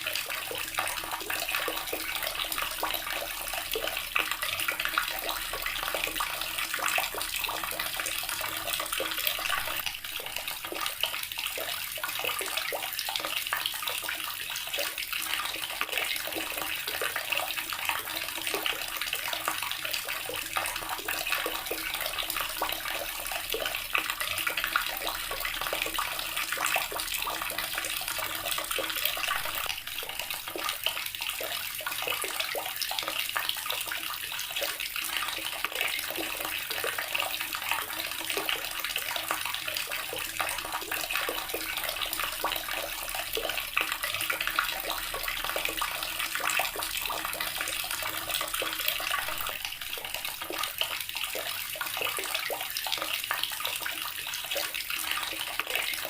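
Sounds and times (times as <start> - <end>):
water tap running into basin: 0.0 - 56.0.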